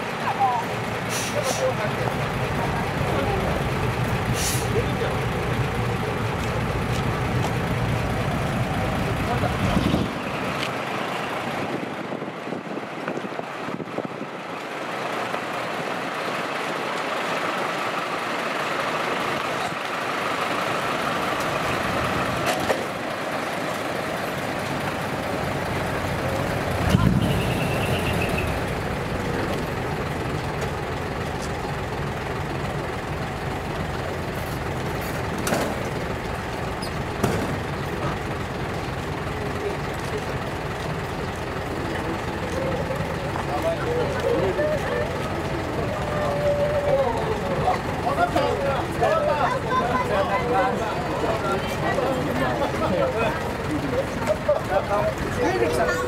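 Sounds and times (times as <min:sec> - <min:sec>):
trucks rumbling: 0:00.0 - 0:56.0.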